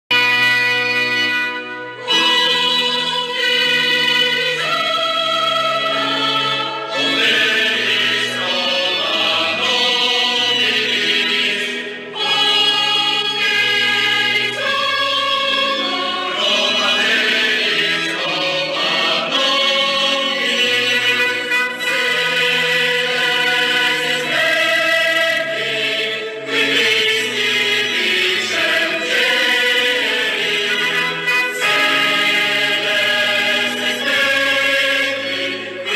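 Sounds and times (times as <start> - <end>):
choir singing held chords: 0.1 - 35.9.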